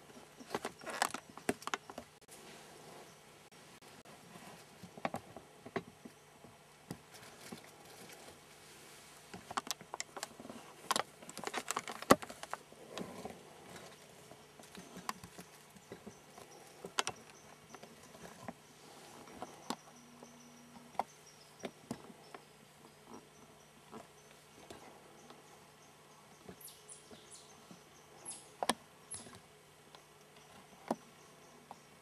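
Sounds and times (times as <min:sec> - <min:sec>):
steady low hum: 0:01.1 - 0:32.0.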